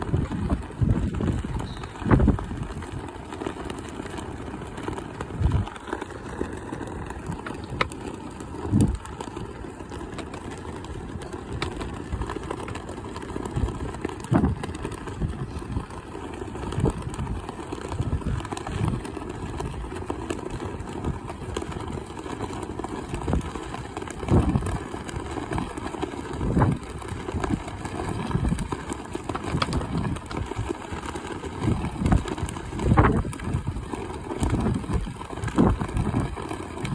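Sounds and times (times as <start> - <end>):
wind buffeting microphone: 0.0 - 9.3, 13.4 - 36.9.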